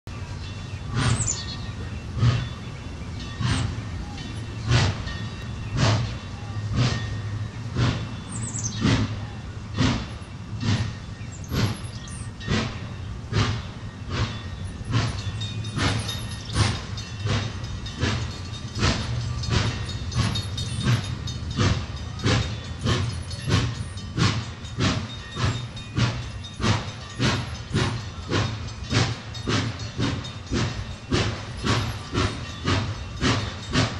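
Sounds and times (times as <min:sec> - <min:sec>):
steam locomotive chuffing: 0:00.1 - 0:33.9.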